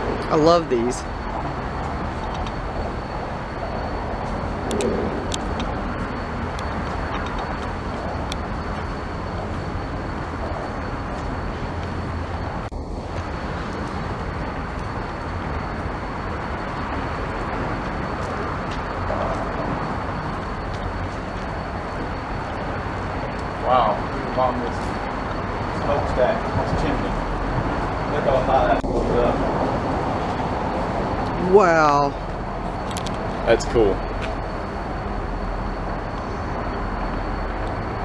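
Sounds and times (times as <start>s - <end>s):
low rumble: 0.0s - 38.0s
thin high whine: 0.0s - 38.0s.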